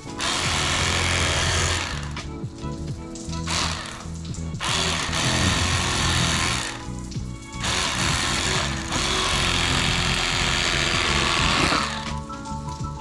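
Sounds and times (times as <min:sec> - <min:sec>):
electric knife buzzing: 0:00.0 - 0:02.3, 0:03.4 - 0:12.3
background music: 0:00.0 - 0:13.0.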